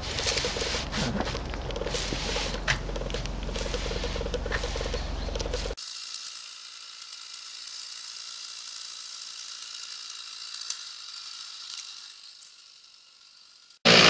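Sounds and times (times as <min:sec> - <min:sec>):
high-pitched mechanical whir: 0:01.8 - 0:14.0.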